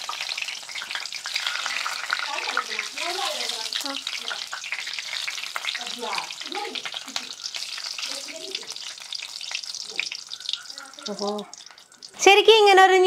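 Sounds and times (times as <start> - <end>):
hot oil sizzling and crackling: 0.0 - 13.0.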